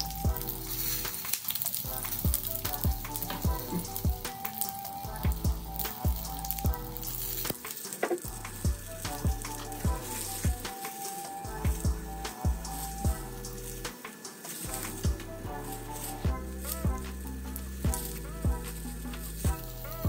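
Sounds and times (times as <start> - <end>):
background music with deep beat: 0.0 - 20.0
peppers sizzling in hot oil: 0.0 - 20.0.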